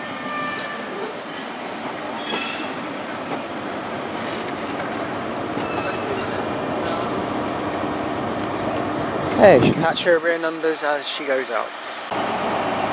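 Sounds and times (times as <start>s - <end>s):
train rumble and wheel clatter: 0.0s - 12.9s.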